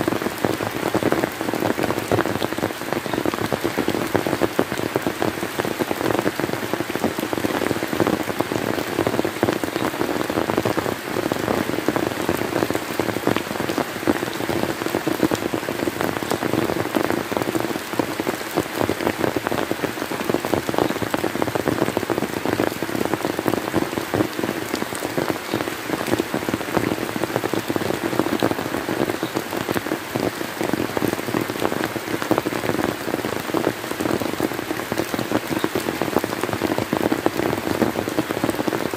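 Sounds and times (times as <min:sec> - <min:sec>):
steady rain pattering: 0:00.0 - 0:38.9.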